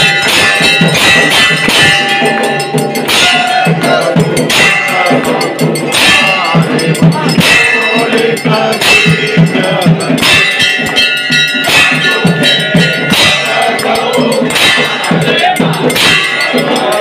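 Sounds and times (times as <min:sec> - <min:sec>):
jangling bells: 0:00.0 - 0:17.0
large bell clanging: 0:00.0 - 0:17.0
quick drum beat: 0:00.0 - 0:17.0.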